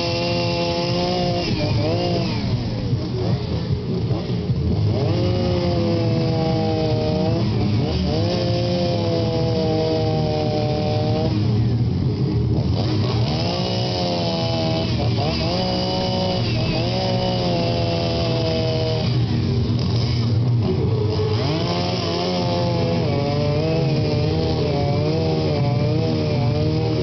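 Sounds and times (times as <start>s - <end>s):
chainsaw carving wood: 0.0s - 27.0s.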